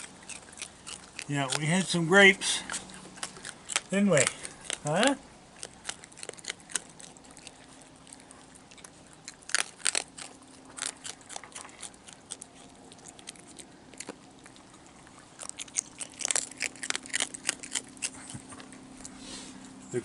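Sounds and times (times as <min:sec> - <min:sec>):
raccoons eating: 0:00.0 - 0:20.0.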